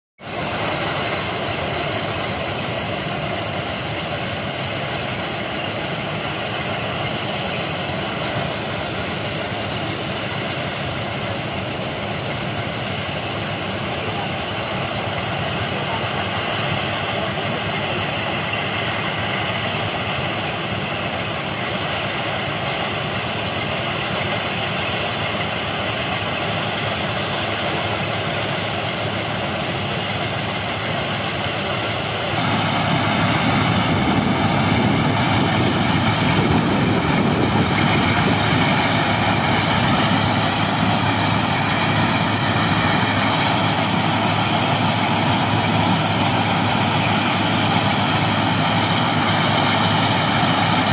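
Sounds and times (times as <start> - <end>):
railway machine engines: 0.2 - 50.9.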